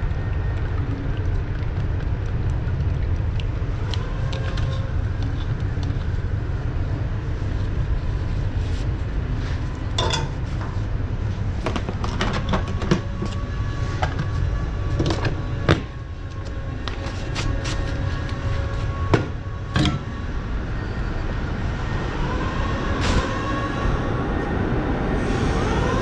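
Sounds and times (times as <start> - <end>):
low machine rumble: 0.0 - 26.0.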